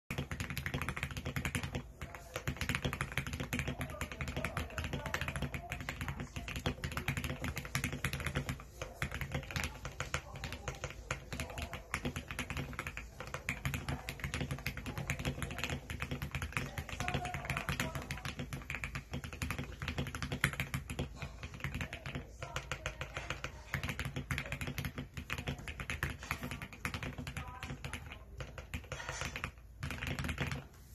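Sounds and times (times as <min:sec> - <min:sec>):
fast typing on mechanical keyboard: 0:00.1 - 0:30.9.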